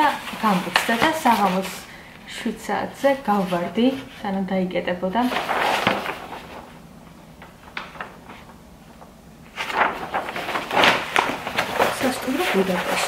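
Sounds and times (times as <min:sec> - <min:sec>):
wrapping paper rustling: 0:00.0 - 0:02.0, 0:02.8 - 0:13.0.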